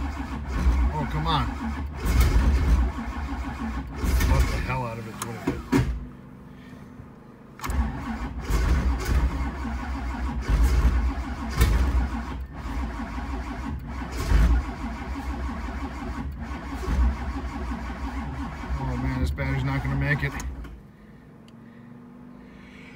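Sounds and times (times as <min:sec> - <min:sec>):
starter motor cranking engine: 0:00.0 - 0:06.0, 0:07.6 - 0:20.8.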